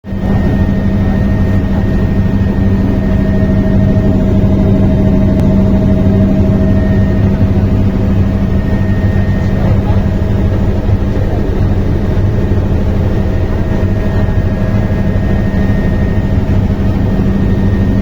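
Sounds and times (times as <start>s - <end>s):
helicopter engine and rotor drone: 0.0s - 18.0s.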